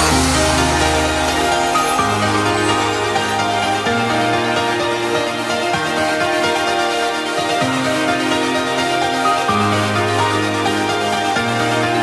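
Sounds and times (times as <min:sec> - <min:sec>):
electronic music with synth chords: 0:00.0 - 0:12.0.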